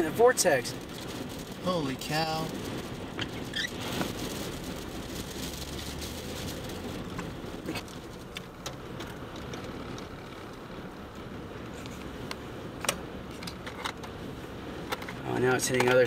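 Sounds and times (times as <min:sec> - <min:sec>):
rushing noise with low rumble: 0:00.0 - 0:16.0.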